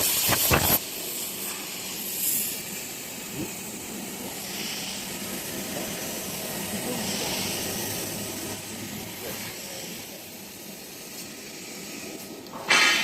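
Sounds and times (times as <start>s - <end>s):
plasma torch hissing: 0.0s - 13.0s.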